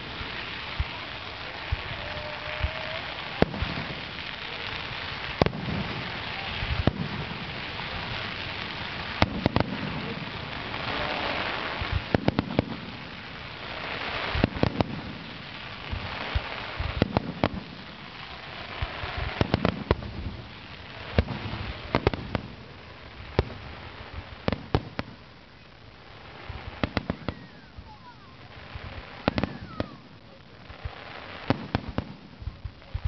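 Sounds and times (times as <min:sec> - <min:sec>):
fireworks bursting with sharp bangs: 0:00.0 - 0:33.0.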